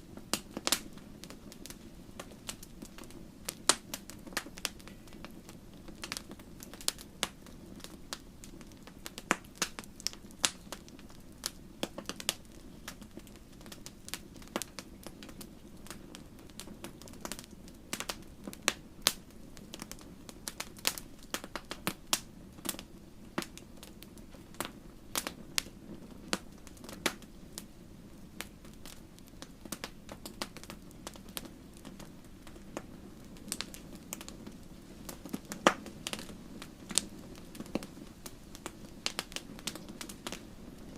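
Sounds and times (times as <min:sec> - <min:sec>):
low rush of flame: 0:00.0 - 0:40.9
wood fire crackling and popping: 0:00.0 - 0:40.9.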